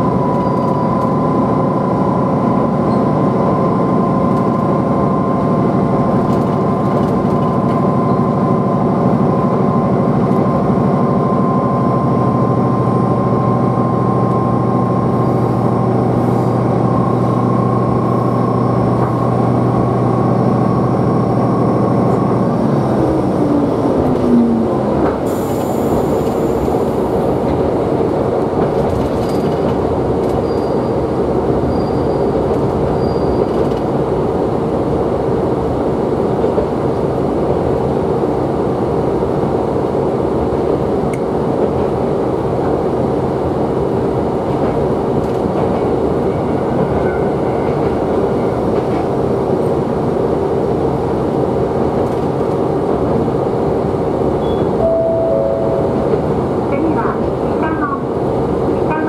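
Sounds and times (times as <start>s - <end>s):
diesel railcar engine drone: 0.0s - 59.0s
wheels rumbling on rail: 0.0s - 59.0s.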